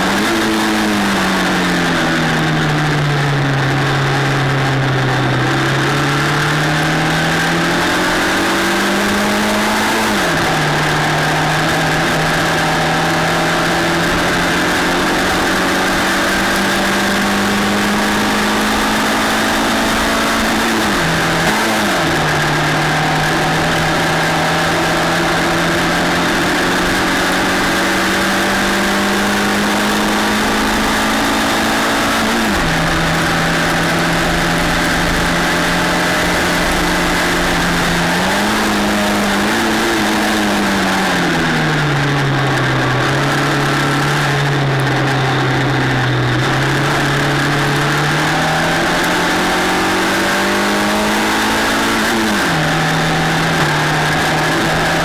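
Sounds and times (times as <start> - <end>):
racing car engine running hard: 0.0 - 55.0.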